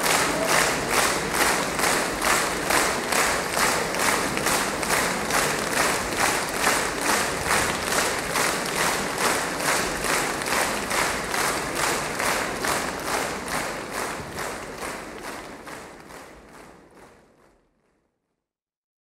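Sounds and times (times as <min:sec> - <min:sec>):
audience rhythmic clapping: 0:00.0 - 0:17.9.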